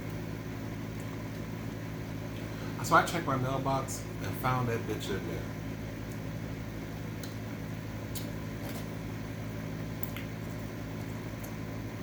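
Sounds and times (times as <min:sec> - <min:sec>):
air conditioner fan humming: 0:00.0 - 0:12.0.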